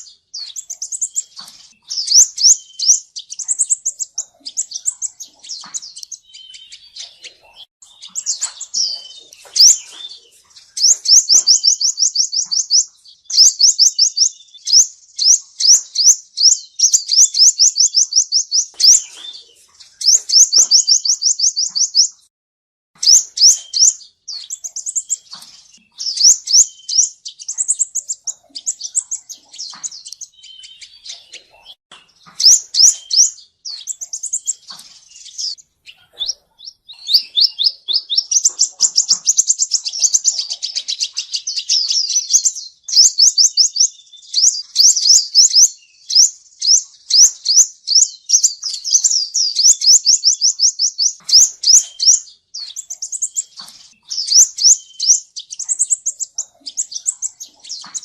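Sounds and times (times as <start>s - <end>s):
bird singing high trills: 0.0s - 22.2s, 23.0s - 58.0s.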